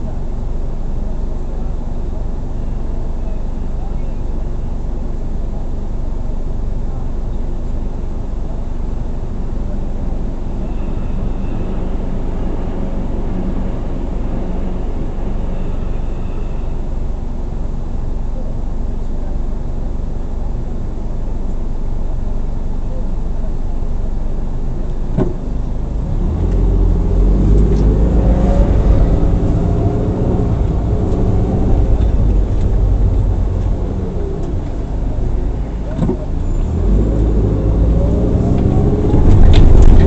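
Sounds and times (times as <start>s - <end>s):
car engine: 0.0s - 40.0s
road noise: 0.0s - 40.0s.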